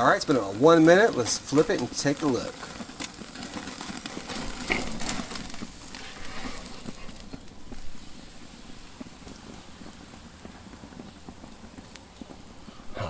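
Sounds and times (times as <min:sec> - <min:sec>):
charcoal crackling: 0:00.0 - 0:13.0
steak sizzling on grill: 0:00.0 - 0:13.0.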